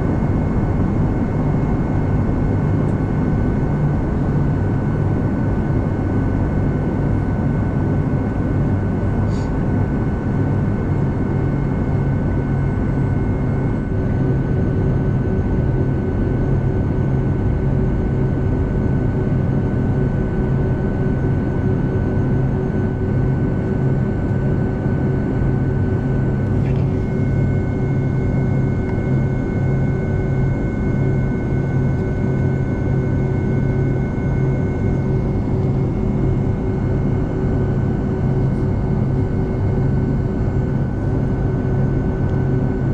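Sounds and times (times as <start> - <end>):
jet engine high whine: 0.0 - 42.9
jet engine low hum: 0.0 - 42.9.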